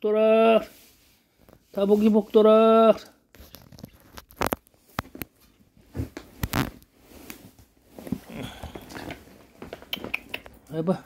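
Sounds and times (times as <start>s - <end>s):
soft rustling: 0.5s - 10.6s.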